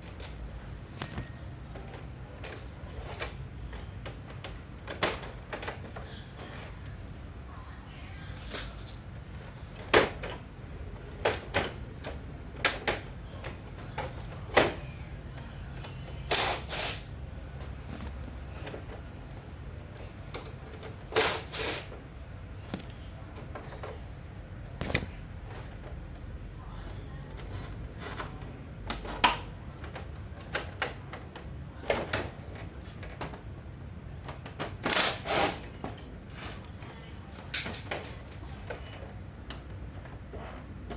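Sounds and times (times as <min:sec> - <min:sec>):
clicks and knocks of handling: 0:00.0 - 0:07.0, 0:08.4 - 0:16.4, 0:17.5 - 0:22.0, 0:22.6 - 0:24.1, 0:24.7 - 0:33.6, 0:34.2 - 0:40.9.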